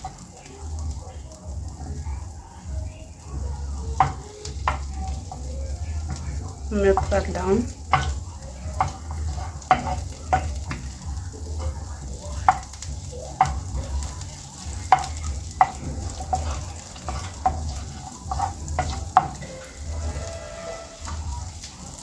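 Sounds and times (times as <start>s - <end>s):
butter sizzling in a frying pan: 0.0s - 22.0s
utensil knocking against pan: 3.9s - 21.7s.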